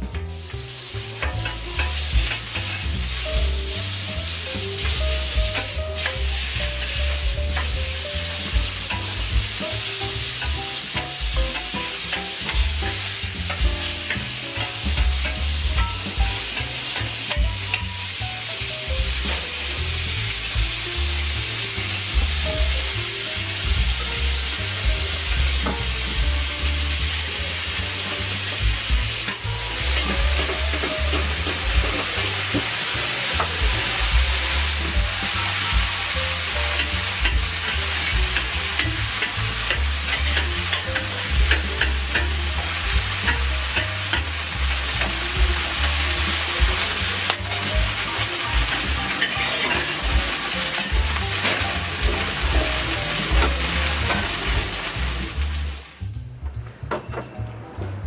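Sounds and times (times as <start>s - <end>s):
noodles sizzling on griddle: 0.0s - 56.2s
background music: 0.0s - 58.0s.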